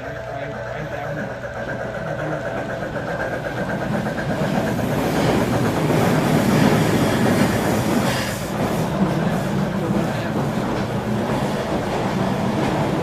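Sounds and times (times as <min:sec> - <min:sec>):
model train wheels clicking on rails: 0:00.0 - 0:13.0.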